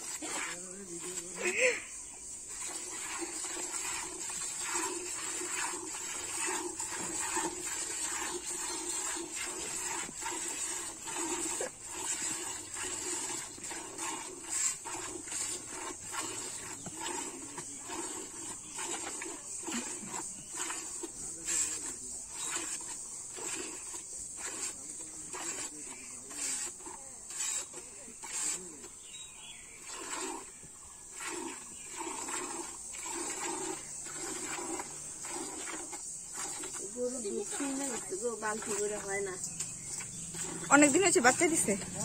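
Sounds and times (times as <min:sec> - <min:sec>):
insects chirring: 0:00.0 - 0:42.0
milk squirting into steel bucket: 0:00.0 - 0:42.0.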